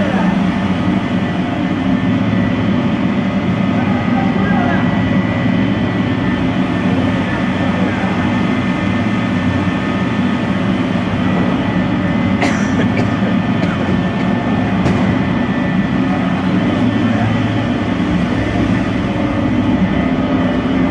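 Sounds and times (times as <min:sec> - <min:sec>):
high whine: 0:00.0 - 0:20.9
loud machine drone: 0:00.0 - 0:20.9.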